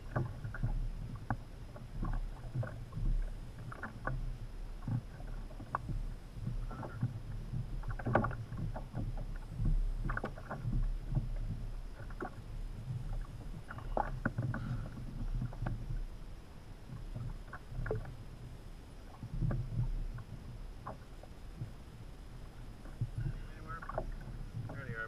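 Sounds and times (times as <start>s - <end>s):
low rumble: 0.0s - 25.0s
water lapping against hull: 0.0s - 25.0s.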